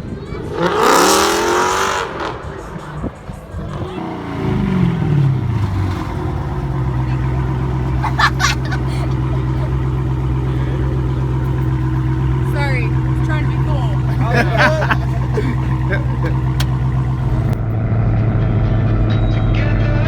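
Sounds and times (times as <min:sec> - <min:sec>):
car engine revving and idling: 0:00.0 - 0:18.8.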